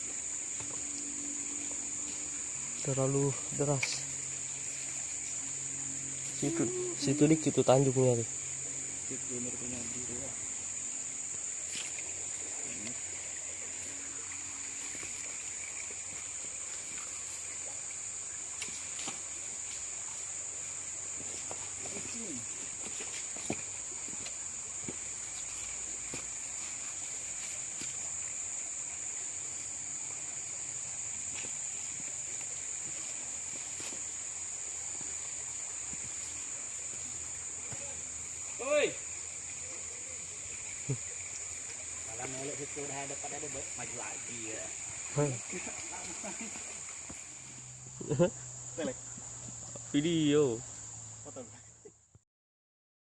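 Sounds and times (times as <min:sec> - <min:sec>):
flowing river water: 0:00.0 - 0:51.3
high-pitched insect chorus: 0:00.0 - 0:52.2.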